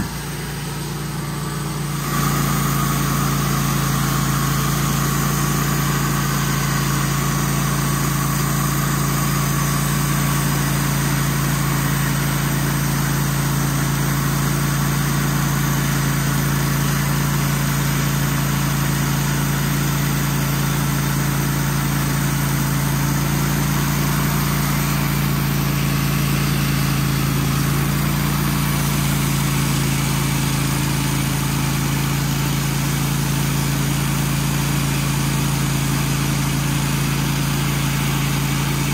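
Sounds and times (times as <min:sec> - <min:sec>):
band sawmill cutting log: 0:00.0 - 0:38.9.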